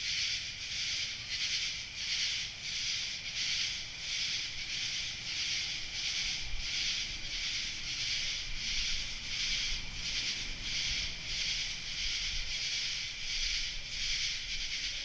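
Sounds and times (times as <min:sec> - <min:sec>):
night insects pulsing chorus: 0:00.0 - 0:15.0.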